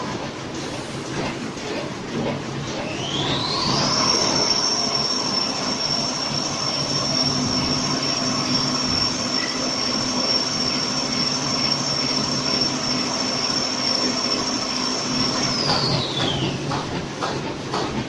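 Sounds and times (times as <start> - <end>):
high machine whine: 0.0 - 17.4
conveyor mechanical noise: 0.0 - 18.0.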